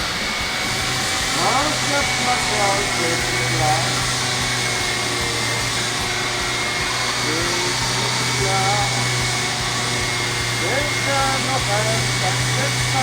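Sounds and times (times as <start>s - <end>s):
electric power tool humming: 0.0s - 13.0s.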